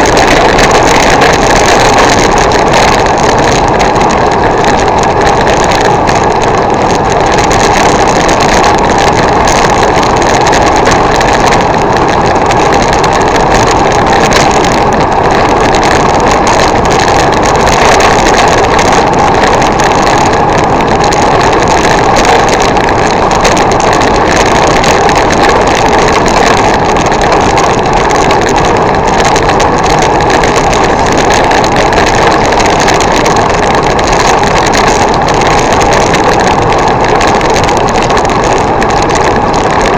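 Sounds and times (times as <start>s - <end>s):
tyres on wet road: 0.0s - 39.9s
wind over microphone: 0.0s - 39.9s.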